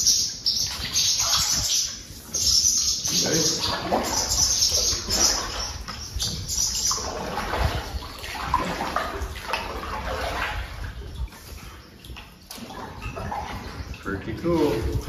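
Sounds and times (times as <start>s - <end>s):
water splashing around canoe: 0.0s - 15.0s
paddle strokes: 0.6s - 15.0s.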